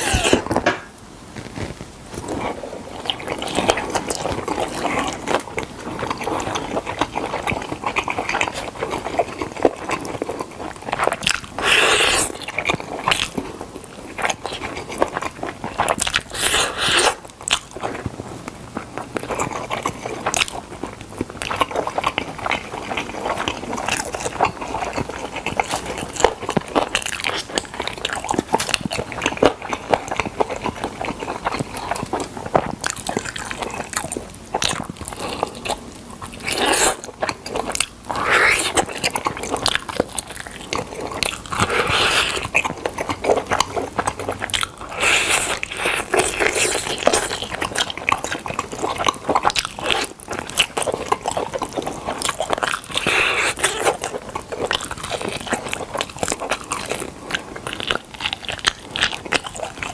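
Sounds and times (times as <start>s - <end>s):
chewing and crunching: 1.4s - 59.9s.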